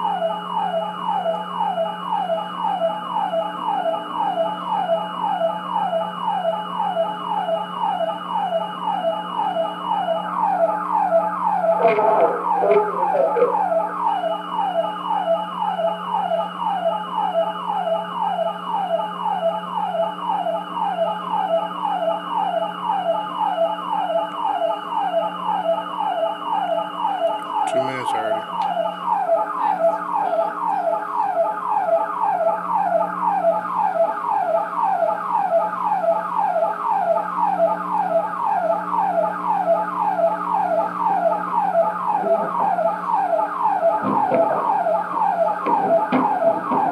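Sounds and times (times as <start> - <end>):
siren with falling sweeps: 0.0 - 46.9.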